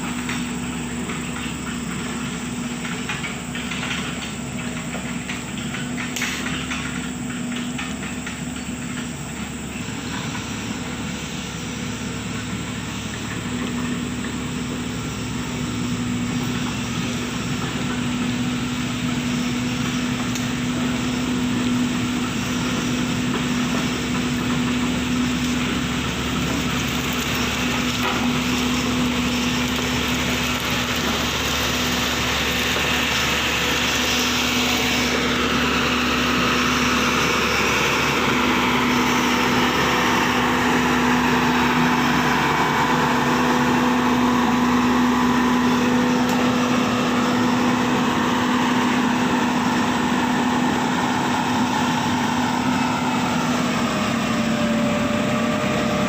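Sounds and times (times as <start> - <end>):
heavy engine droning: 0.0 - 56.0.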